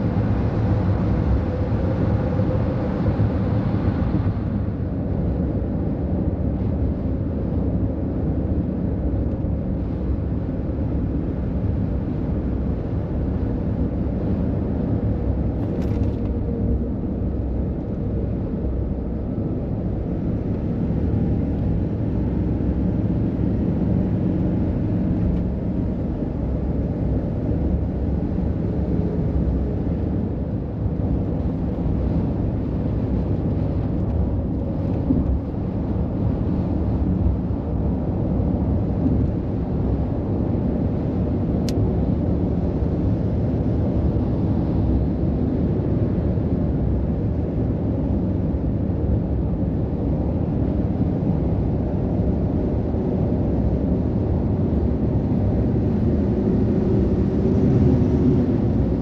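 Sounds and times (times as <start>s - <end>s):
heavy road traffic rumble: 0.0s - 59.0s.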